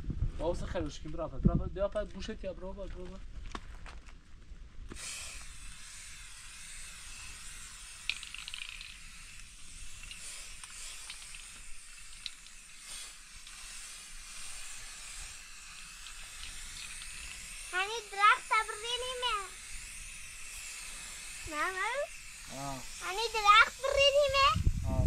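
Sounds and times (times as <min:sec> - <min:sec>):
spray can hissing: 0:04.9 - 0:25.0.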